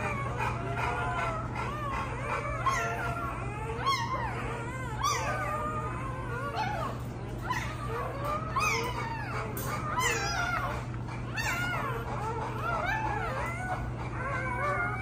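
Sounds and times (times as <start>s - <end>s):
puppies squealing and whining: 0.0s - 15.0s
steady low hum: 0.0s - 15.0s.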